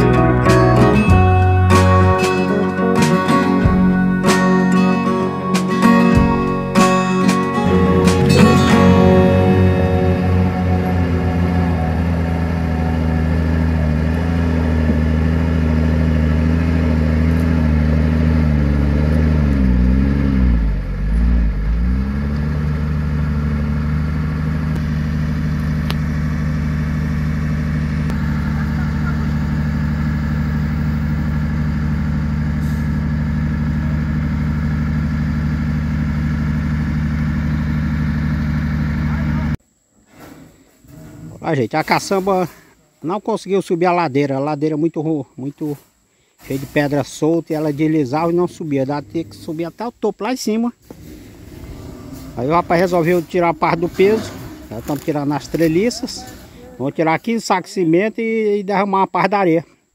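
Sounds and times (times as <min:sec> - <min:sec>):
truck diesel engine labouring: 0:00.0 - 0:39.6, 0:47.5 - 0:50.0, 0:50.8 - 0:56.9.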